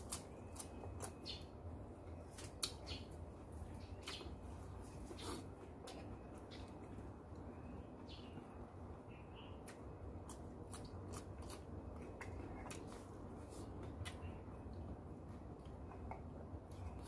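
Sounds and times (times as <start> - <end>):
chewing raw vegetables: 0.0 - 7.0, 9.6 - 17.0
low background rumble: 0.0 - 17.0.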